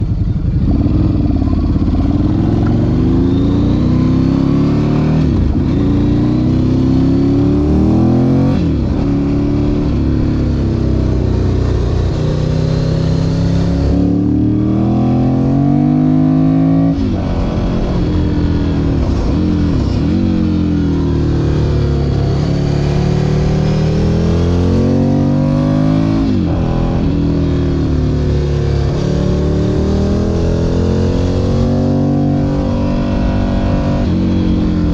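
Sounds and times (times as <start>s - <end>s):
motorcycle engine accelerating hard: 0.0s - 34.9s.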